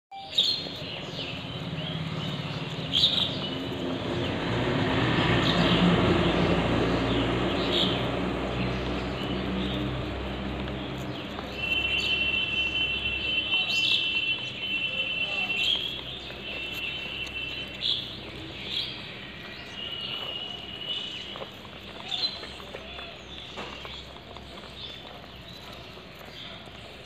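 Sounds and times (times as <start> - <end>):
small birds chirping: 0.1 - 27.0
vehicle engine hum: 0.6 - 27.0.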